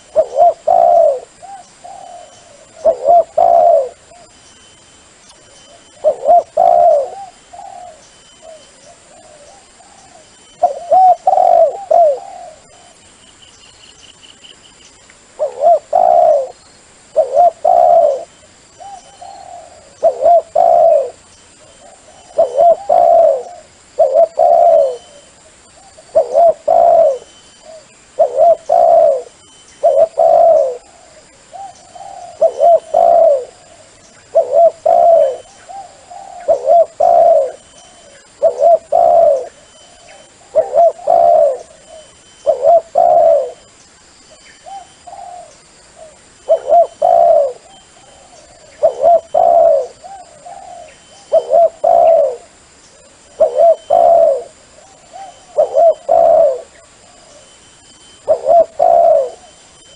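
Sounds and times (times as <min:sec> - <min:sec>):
dove cooing: 0:00.0 - 0:04.3, 0:05.7 - 0:13.1, 0:15.4 - 0:43.7, 0:44.6 - 0:59.9.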